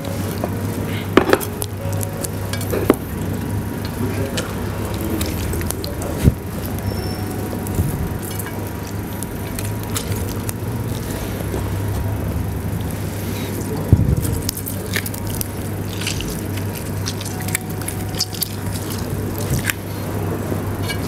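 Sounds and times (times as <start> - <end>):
steady low hum: 0.0 - 21.0
wet squishing of lemons: 0.0 - 21.0.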